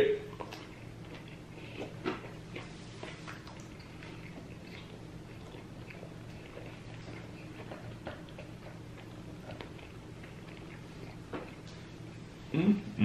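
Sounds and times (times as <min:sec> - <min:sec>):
person chewing food: 0:00.3 - 0:12.2.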